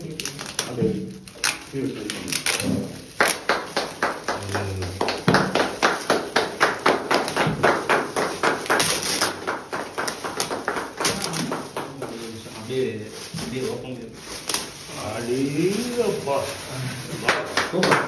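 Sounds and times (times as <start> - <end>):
foil gift wrap crinkling and tearing: 0.0 - 18.0.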